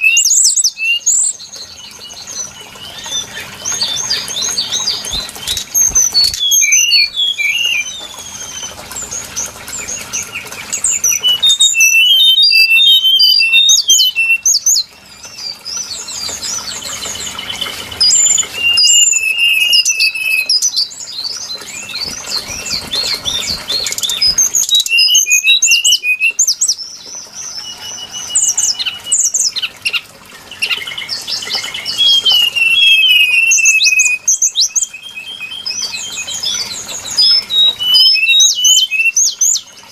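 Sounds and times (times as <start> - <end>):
bird whistling and trilling: 0.0 - 39.9.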